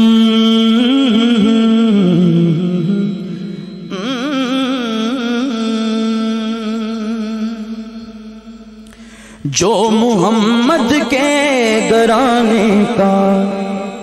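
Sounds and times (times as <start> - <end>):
man singing wordless notes: 0.0 - 14.0.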